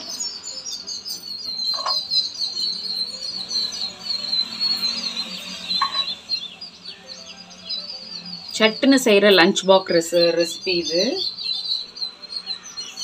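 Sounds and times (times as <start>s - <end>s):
background music: 0.0s - 13.0s
high-pitched bird chirping: 0.0s - 13.0s.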